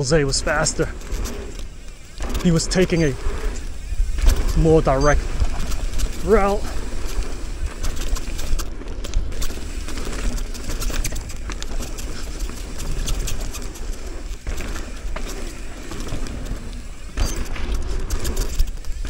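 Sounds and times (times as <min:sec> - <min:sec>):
wind buffeting microphone: 0:00.0 - 0:18.3
bike clattering over bumps: 0:00.0 - 0:19.0
tyre noise on dirt: 0:00.0 - 0:19.0.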